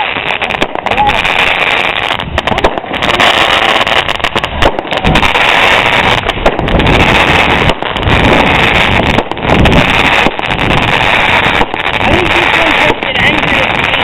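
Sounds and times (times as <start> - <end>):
firework fountain hissing: 0.0 - 14.0.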